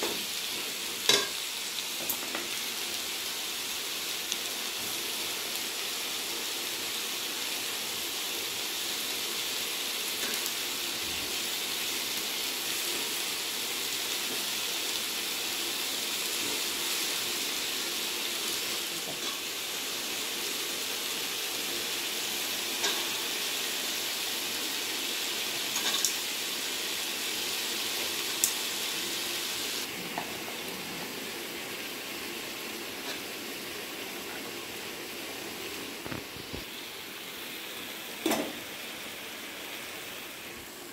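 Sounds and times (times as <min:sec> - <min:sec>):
vegetables sizzling in a pot: 0:00.0 - 0:40.9.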